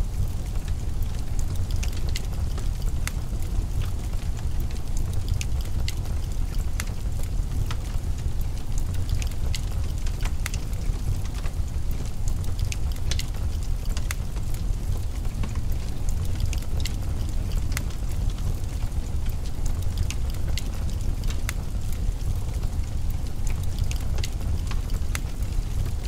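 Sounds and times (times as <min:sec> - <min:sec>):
steady low rumble: 0:00.0 - 0:26.0
wood fire crackling and popping: 0:00.0 - 0:26.0.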